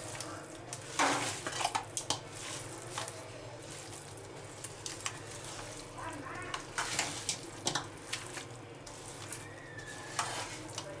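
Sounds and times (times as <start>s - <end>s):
wet squelches of fish mixing: 0.0s - 11.0s.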